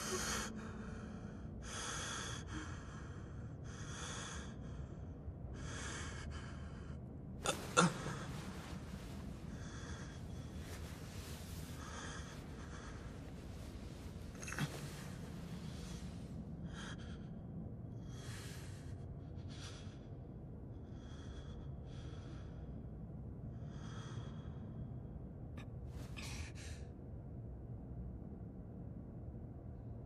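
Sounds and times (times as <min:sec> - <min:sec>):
man breathing heavily: 0:00.0 - 0:25.0
low steady rumble: 0:00.0 - 0:30.0.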